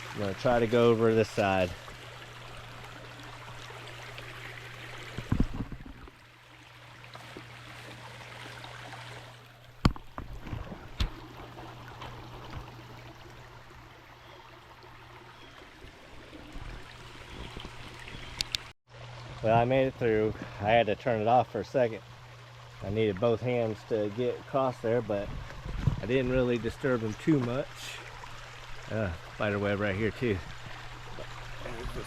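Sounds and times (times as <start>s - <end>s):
creek running: 0.0s - 32.0s.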